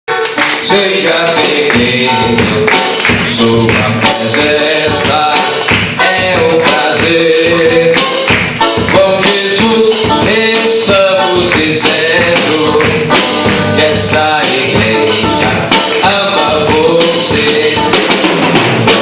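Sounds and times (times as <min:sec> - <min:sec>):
tambourine and percussion beat: 0:00.1 - 0:19.0
worship song singing: 0:00.4 - 0:19.0.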